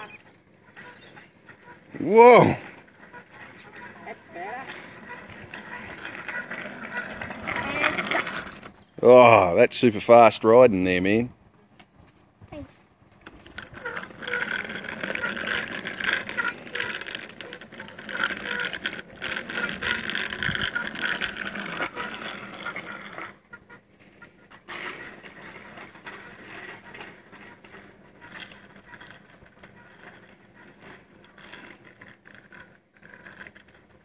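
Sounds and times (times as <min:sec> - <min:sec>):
bicycle wheels rattling on asphalt: 0:00.0 - 0:11.3, 0:12.2 - 0:34.0.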